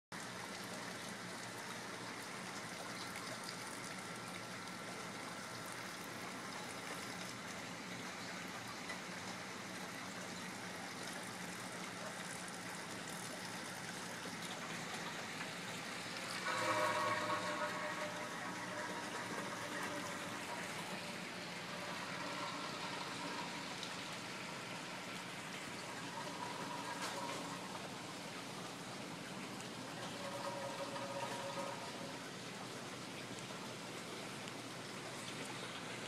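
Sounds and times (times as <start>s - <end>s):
rainwater falling and running: 0.1s - 36.0s.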